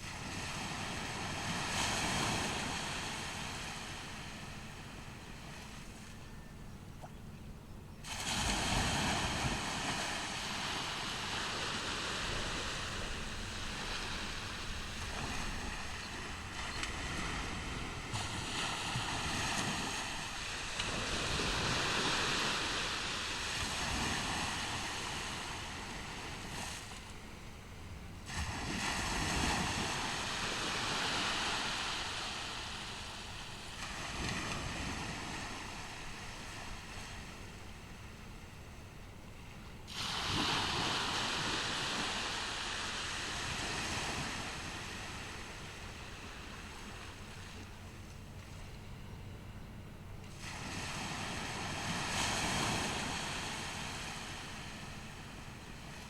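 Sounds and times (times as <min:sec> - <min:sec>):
ocean waves breaking on beach: 0:00.0 - 0:07.1, 0:08.0 - 0:49.3, 0:50.1 - 0:56.0.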